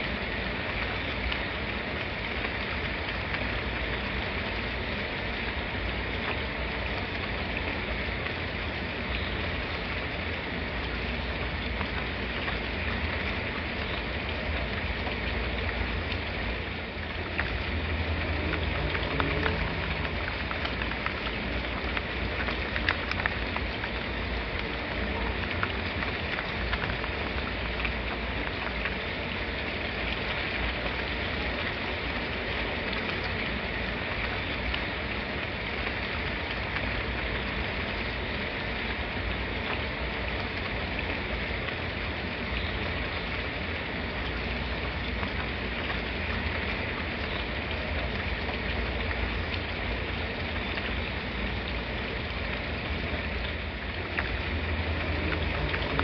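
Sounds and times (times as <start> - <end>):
raindrop ticks: 0.0 - 56.0
steady rain falling: 0.0 - 56.0.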